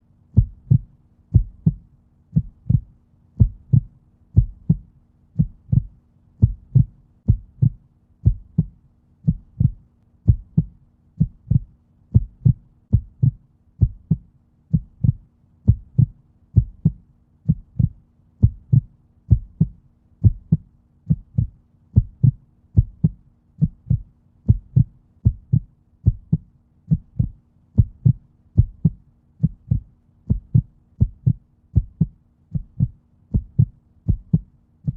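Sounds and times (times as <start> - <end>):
faint steady hum: 0.0 - 34.9
heartbeat thuds: 0.3 - 34.9.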